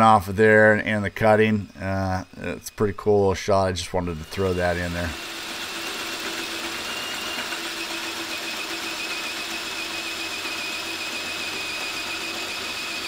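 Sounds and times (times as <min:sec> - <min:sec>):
hole saw cutting pipe: 0:00.0 - 0:13.0
thin high machine whine: 0:00.0 - 0:13.0.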